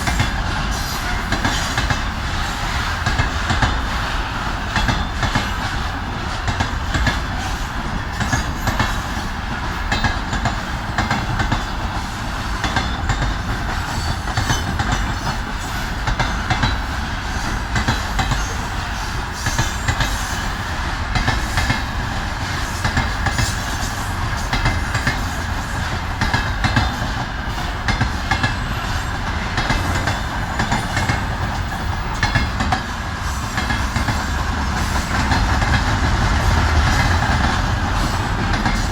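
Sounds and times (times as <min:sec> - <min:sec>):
train rumble: 0:00.0 - 0:38.9.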